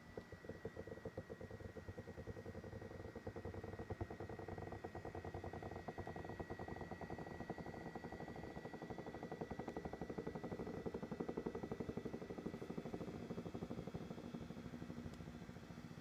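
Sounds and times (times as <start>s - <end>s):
massage seat pulsing: 0.0s - 16.0s.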